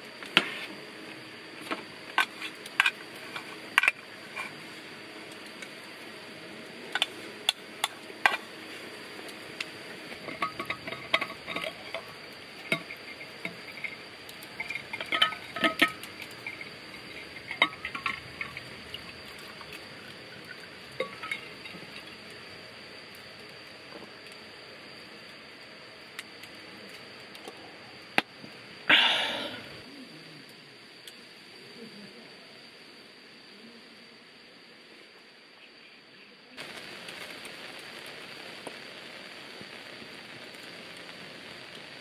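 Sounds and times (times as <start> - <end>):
steady high-pitched tone: 0.0 - 36.9.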